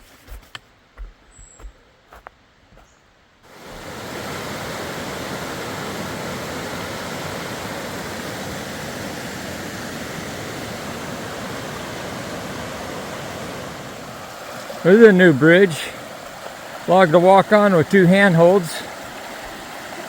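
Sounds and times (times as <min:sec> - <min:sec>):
waterfall rushing: 0:03.5 - 0:20.0.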